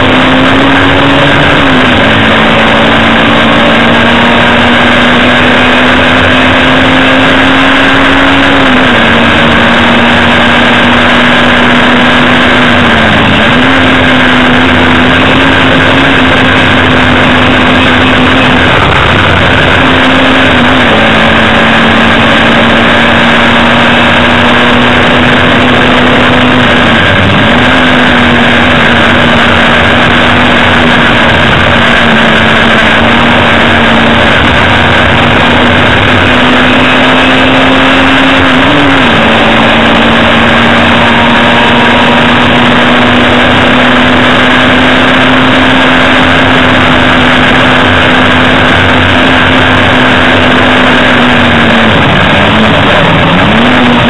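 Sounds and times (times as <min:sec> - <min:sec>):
race car engine at high revs: 0:00.0 - 0:54.0
road and wind noise: 0:00.0 - 0:54.0.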